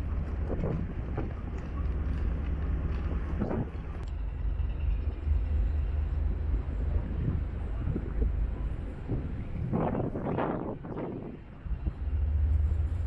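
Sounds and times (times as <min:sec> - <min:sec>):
ship low rumble: 0:00.0 - 0:13.0
wind buffeting microphone: 0:00.0 - 0:13.0.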